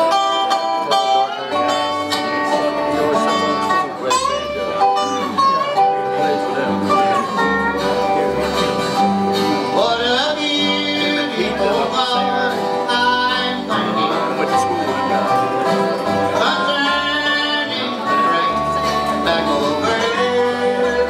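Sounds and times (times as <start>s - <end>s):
bluegrass band playing: 0.0s - 21.0s.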